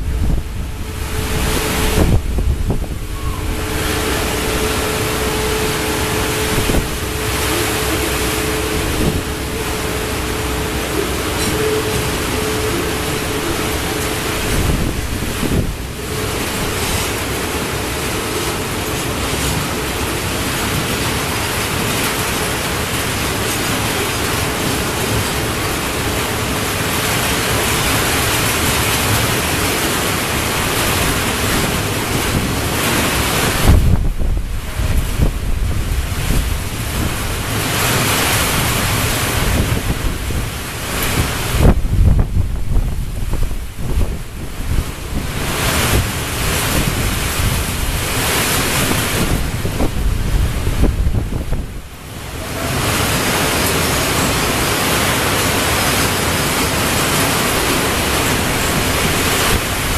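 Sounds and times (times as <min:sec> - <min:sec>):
freight train rolling past: 0:00.0 - 0:59.9
wind buffeting microphone: 0:00.0 - 0:59.9.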